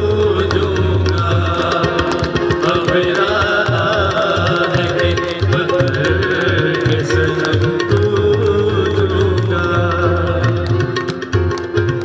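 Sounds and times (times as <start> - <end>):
men singing long wavering notes: 0.0 - 10.9
tabla strokes: 0.0 - 12.0.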